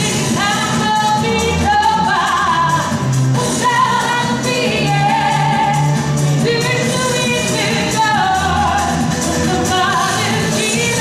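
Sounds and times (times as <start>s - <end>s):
musical accompaniment: 0.0s - 11.0s
woman singing into microphone: 0.0s - 11.0s.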